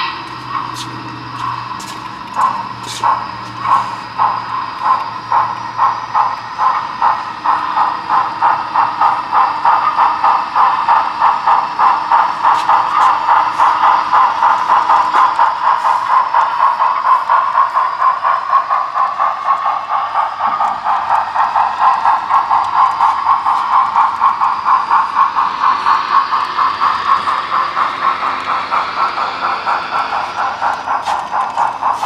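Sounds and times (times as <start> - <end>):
model steam locomotive chuffing: 0.0 - 32.0.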